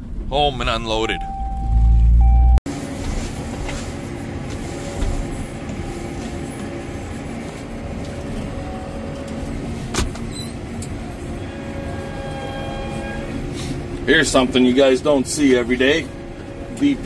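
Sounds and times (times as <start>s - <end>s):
heavy vehicle engine running: 1.3s - 17.0s.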